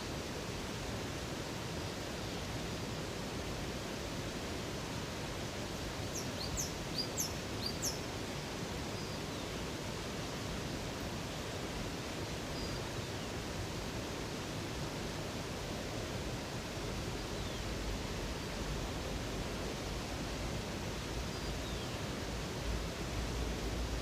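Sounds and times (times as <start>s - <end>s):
flowing water: 0.0s - 24.0s.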